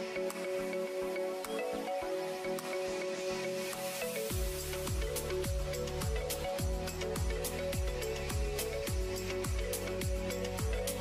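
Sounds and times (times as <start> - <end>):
music with kick drum and synth: 0.0 - 11.0.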